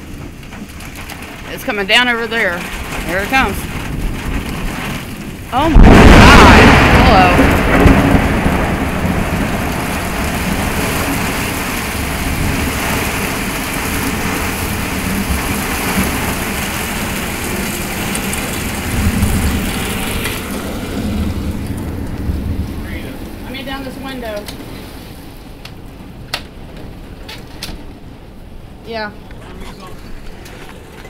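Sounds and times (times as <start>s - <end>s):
heavy rain pouring: 0.0s - 31.0s
low rumble: 2.3s - 31.0s.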